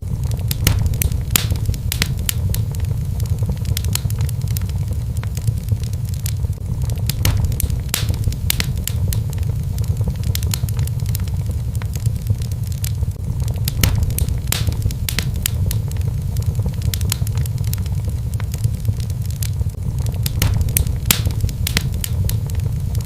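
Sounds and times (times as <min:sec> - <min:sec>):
fire crackling and popping: 0:00.0 - 0:23.0
low rumble: 0:00.0 - 0:23.0.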